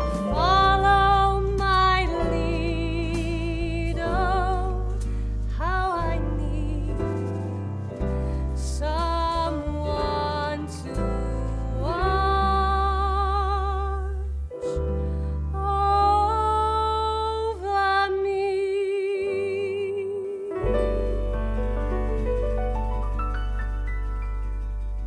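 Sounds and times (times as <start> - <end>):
instrumental accompaniment: 0.0 - 16.9, 20.2 - 25.0
woman singing jazz: 0.0 - 21.2.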